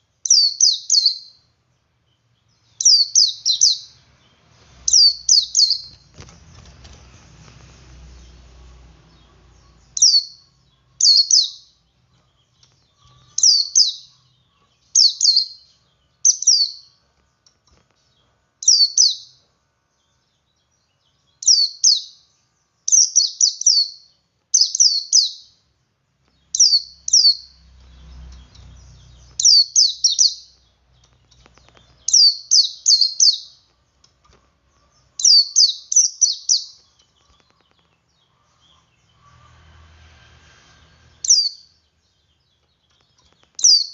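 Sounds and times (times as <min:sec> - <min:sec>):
bird high downward chirps: 0:00.0 - 0:01.6, 0:02.4 - 0:06.7, 0:08.1 - 0:19.5, 0:20.1 - 0:25.7, 0:26.3 - 0:33.8, 0:34.8 - 0:39.8, 0:40.7 - 0:43.9.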